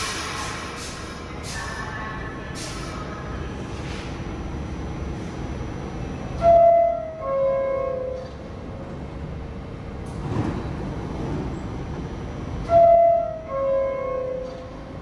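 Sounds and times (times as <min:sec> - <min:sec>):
train rushing: 0:00.0 - 0:05.6, 0:08.5 - 0:15.0.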